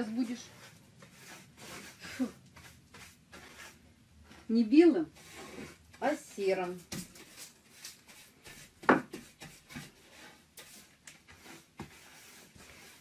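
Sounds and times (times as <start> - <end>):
hand rubbing and scraping wood: 0.0 - 4.5, 5.2 - 13.0.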